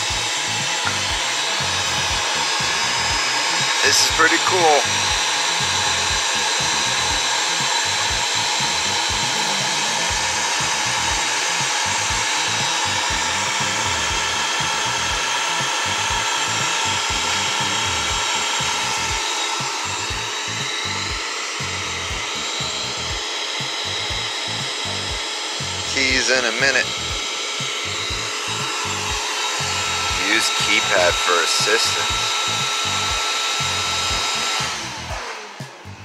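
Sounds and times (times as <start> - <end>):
key cutting machine whine: 0.0 - 36.0.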